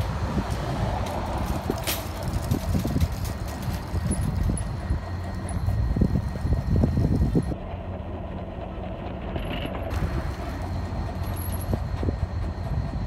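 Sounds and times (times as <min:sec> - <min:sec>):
bicycle rolling rattle: 0:00.0 - 0:12.9
wind rumbling on microphone: 0:00.0 - 0:13.0.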